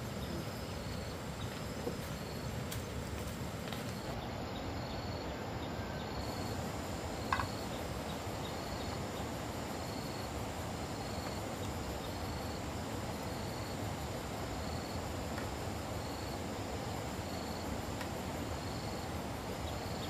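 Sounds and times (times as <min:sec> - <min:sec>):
low background hiss: 0:00.0 - 0:20.0
high-pitched insect trill: 0:03.9 - 0:20.0.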